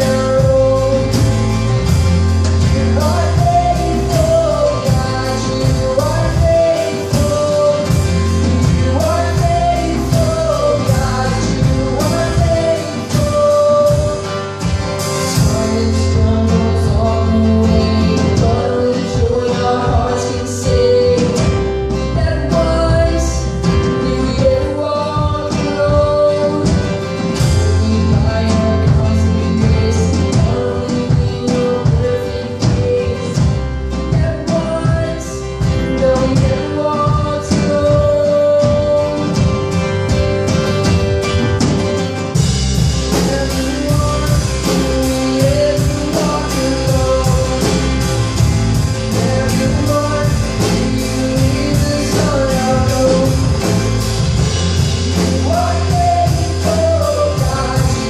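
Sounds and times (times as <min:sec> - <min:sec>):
band playing a worship song: 0:00.0 - 0:58.0
young man singing: 0:00.0 - 0:58.0.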